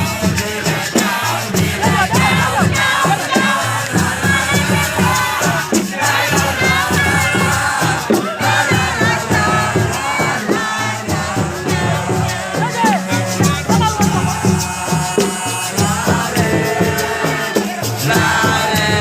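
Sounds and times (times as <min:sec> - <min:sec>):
crowd singing and chanting: 0:00.0 - 0:19.0
loud music with pounding beat: 0:00.0 - 0:19.0.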